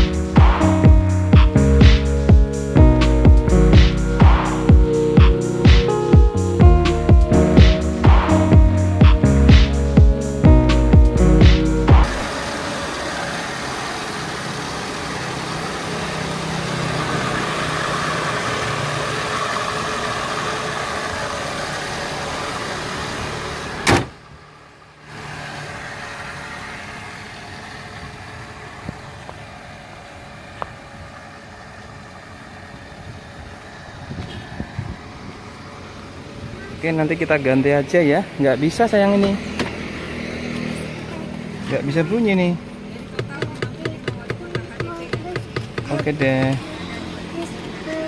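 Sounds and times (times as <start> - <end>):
car engine humming: 0.0 - 48.0.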